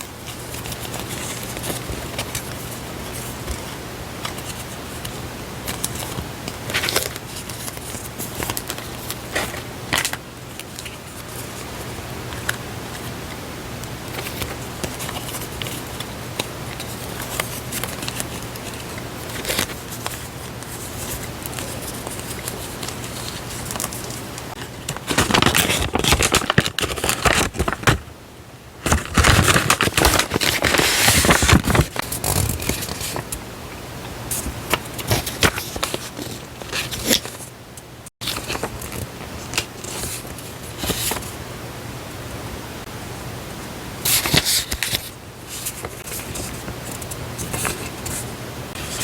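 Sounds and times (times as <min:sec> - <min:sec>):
paper rustling and tapping: 0:00.0 - 0:11.6, 0:13.8 - 0:28.1, 0:28.8 - 0:33.4, 0:34.3 - 0:37.4, 0:38.2 - 0:41.3, 0:44.0 - 0:49.0
paper wrapping crinkling: 0:00.0 - 0:13.1, 0:13.8 - 0:28.1, 0:28.8 - 0:33.4, 0:34.3 - 0:37.5, 0:38.2 - 0:41.4, 0:44.0 - 0:49.0.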